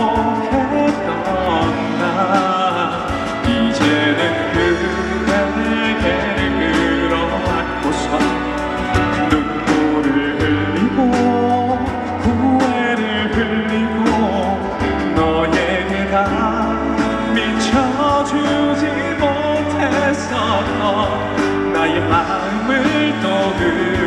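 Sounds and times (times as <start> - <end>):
bass: 0.0 - 24.0
drum beat: 0.0 - 24.0
gliding lead melody: 0.0 - 24.0
live band playing pop ballad: 0.0 - 24.0.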